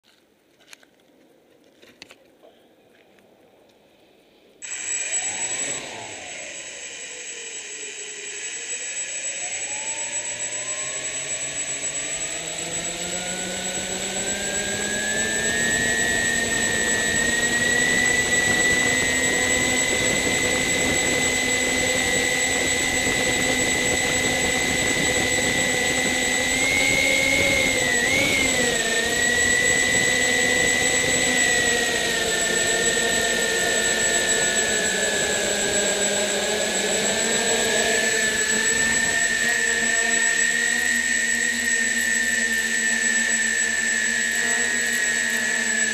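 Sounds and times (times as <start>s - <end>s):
drone motors whining: 4.6s - 45.9s.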